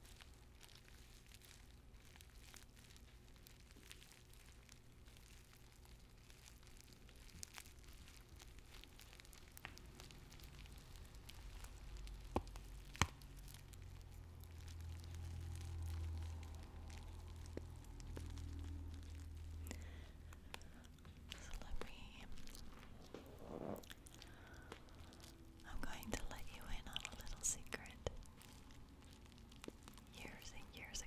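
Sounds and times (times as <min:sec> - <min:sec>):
tea bags crinkling: 0:00.0 - 0:31.0.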